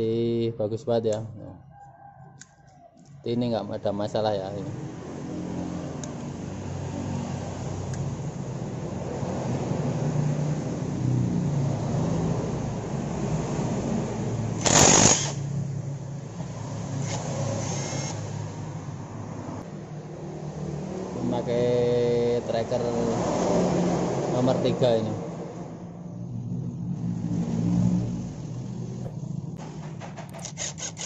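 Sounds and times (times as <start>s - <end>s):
vehicle engines running: 3.1s - 31.0s.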